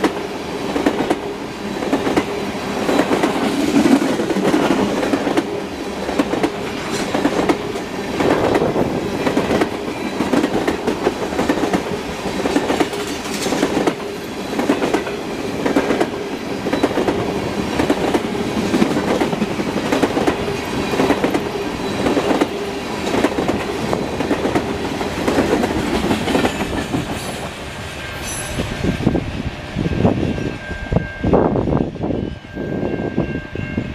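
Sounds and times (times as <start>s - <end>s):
train wheels clicking over rail joints: 0.0s - 27.6s.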